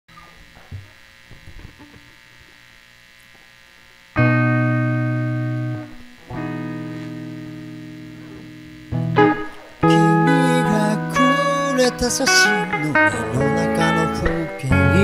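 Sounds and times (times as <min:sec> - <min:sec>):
faint room hum: 0:00.1 - 0:15.0.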